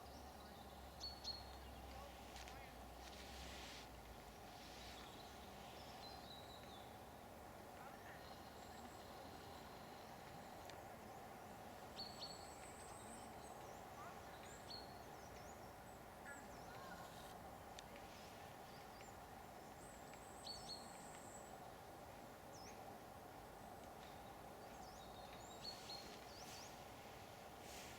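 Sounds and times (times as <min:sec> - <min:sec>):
small birds chirping: 0:00.0 - 0:07.2, 0:07.8 - 0:17.3, 0:17.9 - 0:21.6, 0:24.0 - 0:27.9
steady outdoor hiss: 0:00.0 - 0:27.9.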